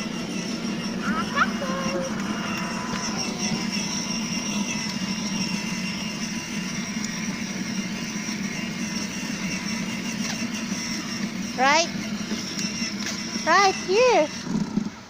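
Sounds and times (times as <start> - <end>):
motorbike running: 0.0 - 15.0.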